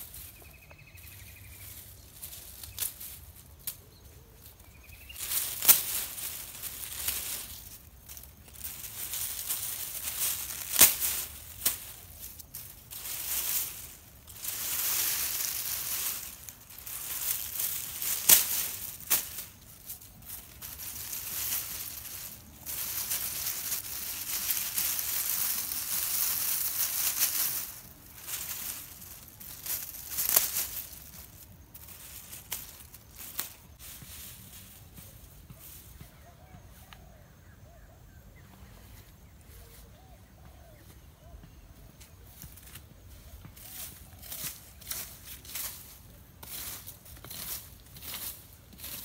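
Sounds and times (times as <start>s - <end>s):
grass thatch rustling: 0.0s - 36.9s, 42.0s - 49.0s.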